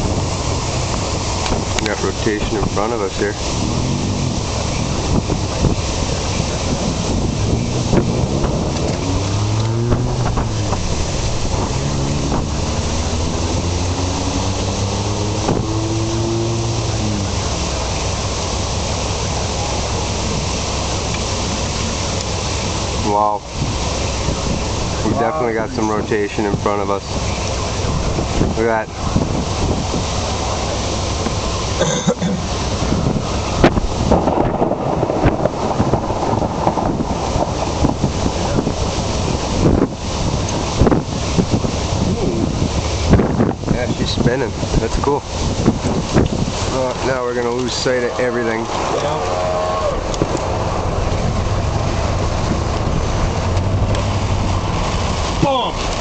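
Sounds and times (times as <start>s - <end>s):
car engine humming: 0.0s - 56.0s
wind and road noise: 0.0s - 56.0s.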